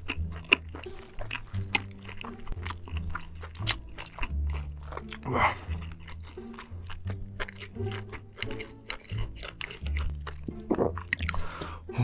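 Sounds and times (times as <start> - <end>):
wet chewing and crunches: 0.0 - 11.9
background music with bass line: 0.0 - 12.0.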